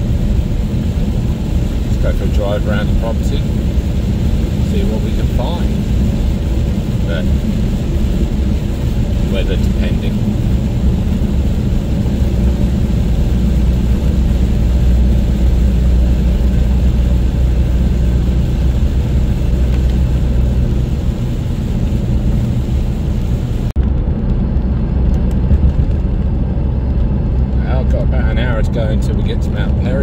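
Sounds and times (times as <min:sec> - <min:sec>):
road noise: 0:00.0 - 0:30.0
vehicle engine drone: 0:00.0 - 0:30.0.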